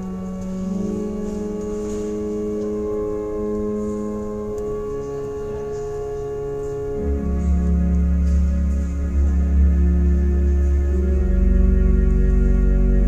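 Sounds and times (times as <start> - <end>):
ambient music with organ-like tones: 0.0 - 13.0.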